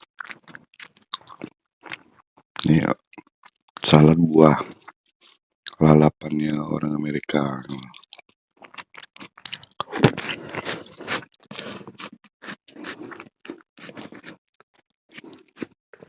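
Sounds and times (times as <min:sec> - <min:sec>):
person chewing food: 0:00.0 - 0:03.9, 0:04.6 - 0:05.8, 0:07.2 - 0:16.0.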